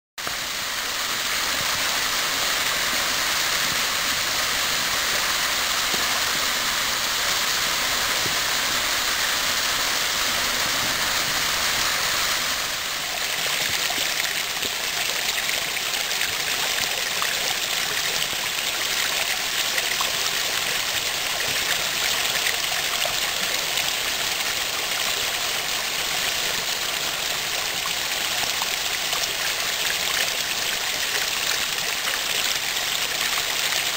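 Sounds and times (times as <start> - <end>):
cascade splashing into pool: 0.2 - 33.9
waterfall splashing over rocks: 0.2 - 33.9.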